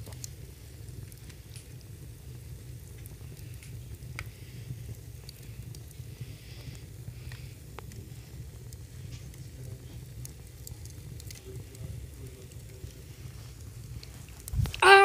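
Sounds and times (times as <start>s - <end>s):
fire hissing: 0.0s - 14.8s
fire low rumble: 0.0s - 14.8s
fire crackling and popping: 0.0s - 14.9s.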